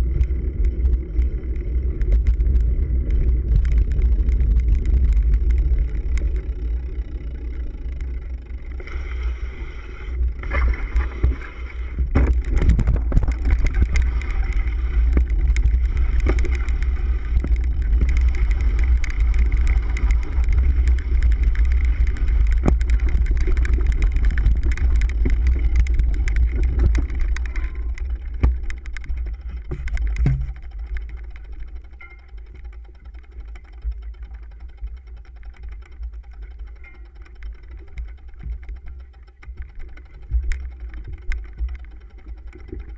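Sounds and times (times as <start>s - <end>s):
bike knocking and rattling: 0.0s - 9.4s, 10.1s - 42.9s
wind rumble on microphone: 0.0s - 42.9s.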